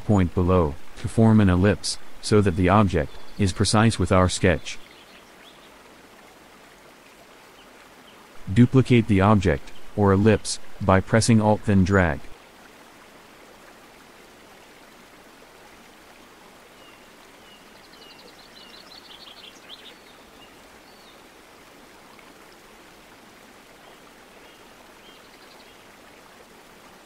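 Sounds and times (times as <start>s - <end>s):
faint background hiss: 0.0s - 27.0s.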